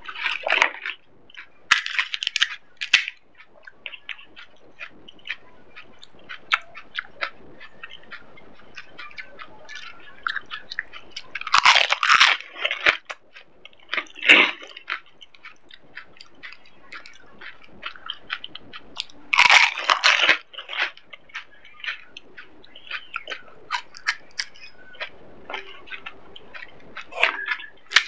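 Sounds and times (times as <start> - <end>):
crunching crisp snack: 0.0 - 28.0
wet chewing: 0.0 - 28.0.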